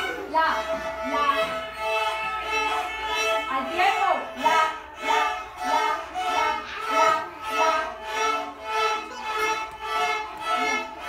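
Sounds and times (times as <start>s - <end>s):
children playing violins: 0.0s - 11.0s.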